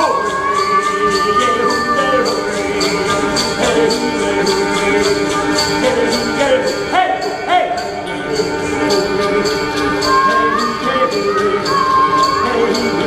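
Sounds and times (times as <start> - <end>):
gliding melody: 0.0 - 13.0
jingling bells beat: 0.0 - 13.0.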